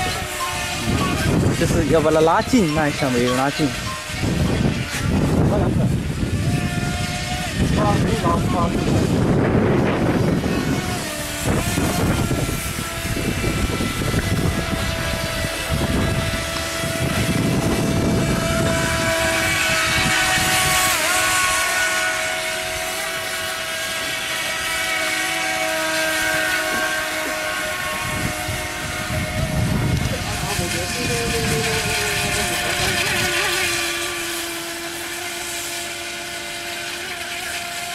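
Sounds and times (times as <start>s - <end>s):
electric motor whining: 0.0s - 37.9s
wind on microphone: 0.0s - 37.9s.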